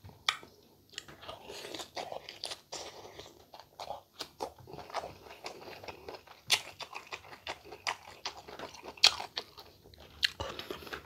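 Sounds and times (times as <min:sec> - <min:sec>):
crunching and chewing mango: 0:00.2 - 0:11.0.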